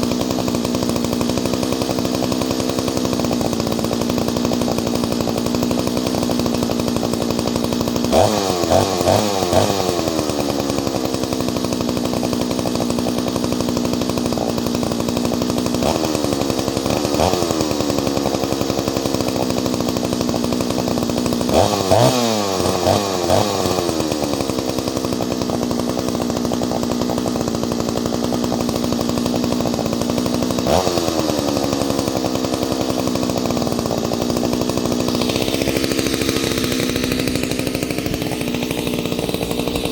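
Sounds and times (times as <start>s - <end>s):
chainsaw idling: 0.0s - 39.9s
chainsaw throttle blips: 0.0s - 39.9s.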